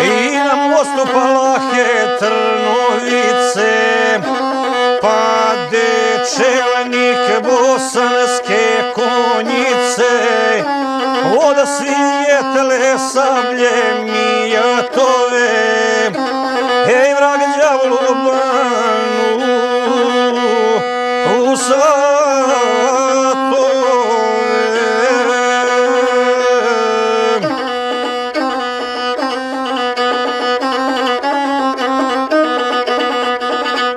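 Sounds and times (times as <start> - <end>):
bowed single-string fiddle: 0.0 - 33.9.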